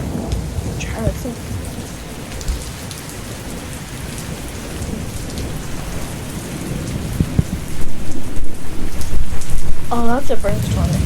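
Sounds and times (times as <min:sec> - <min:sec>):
low rumble of thunder: 0:00.0 - 0:11.0
steady rain: 0:00.0 - 0:11.0.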